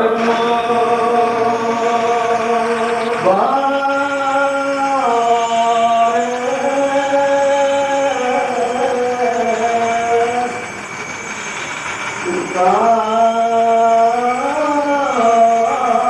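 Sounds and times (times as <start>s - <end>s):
liturgical chant on long held notes: 0.0s - 11.6s, 12.2s - 16.0s.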